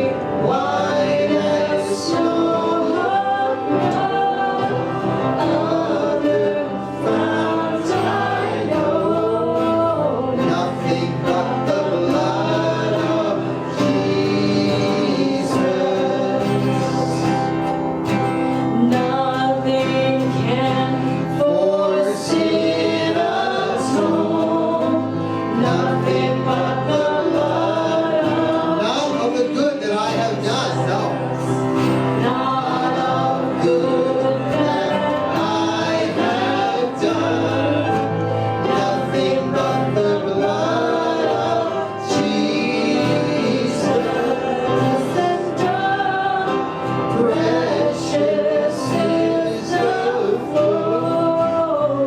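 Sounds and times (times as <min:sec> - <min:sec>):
group singing a hymn: 0:00.0 - 0:52.0
instrumental accompaniment: 0:00.0 - 0:52.0.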